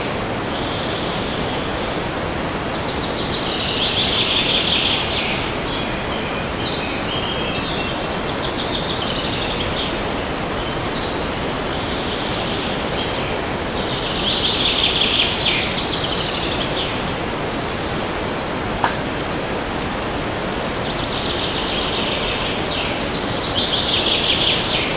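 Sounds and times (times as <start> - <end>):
songbirds singing: 0.0 - 24.9
wind rushing in trees: 0.0 - 24.9.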